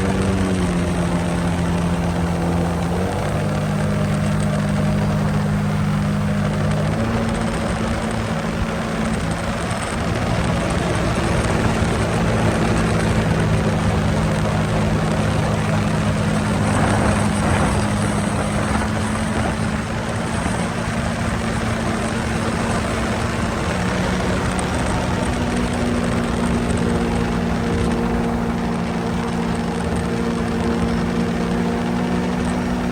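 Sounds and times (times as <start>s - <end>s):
jet ski engine running: 0.0s - 32.9s.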